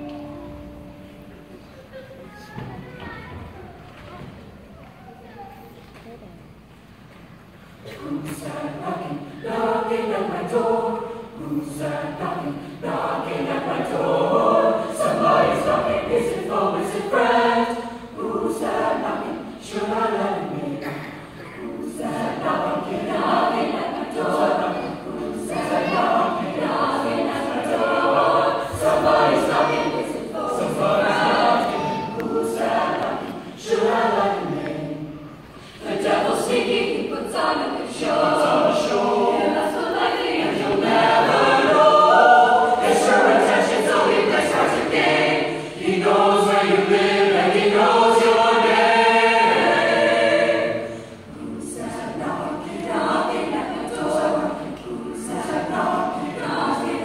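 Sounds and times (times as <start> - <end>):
mixed-voice choir singing: 7.4 - 57.0.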